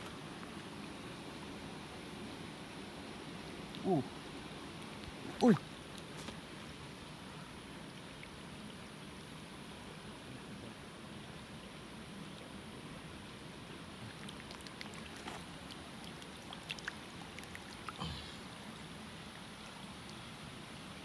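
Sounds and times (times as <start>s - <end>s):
shallow water trickling: 0.0s - 21.0s
water splashes: 0.0s - 21.0s.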